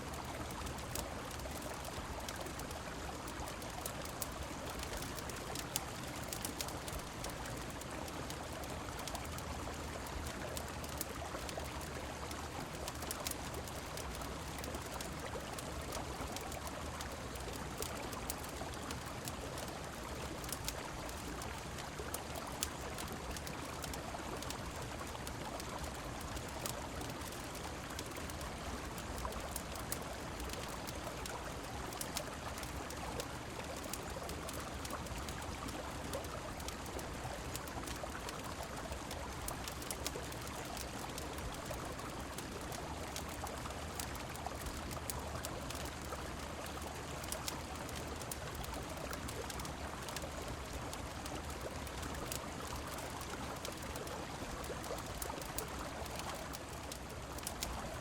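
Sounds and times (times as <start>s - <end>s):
fine scattered ticks: 0.0s - 58.0s.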